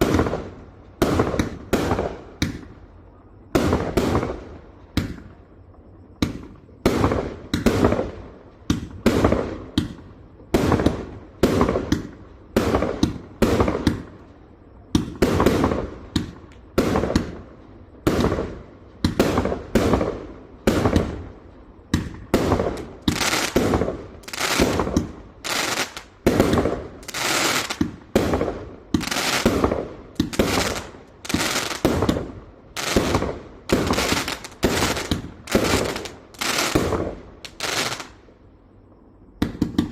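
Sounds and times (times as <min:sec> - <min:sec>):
fireworks firing sharp bangs: 0:00.0 - 0:02.8, 0:03.5 - 0:05.3, 0:06.2 - 0:14.2, 0:14.9 - 0:38.2, 0:39.4 - 0:39.9.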